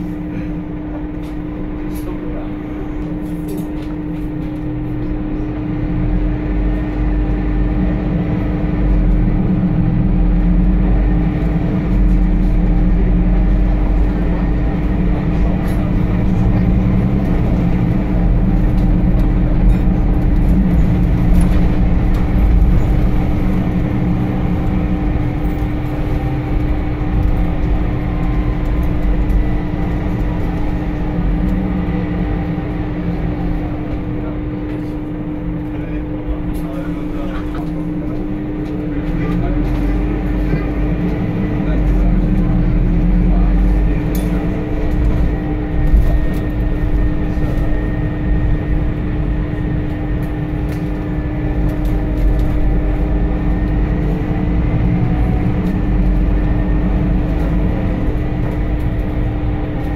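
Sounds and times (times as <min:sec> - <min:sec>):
bus engine rumble: 0:00.0 - 0:59.9.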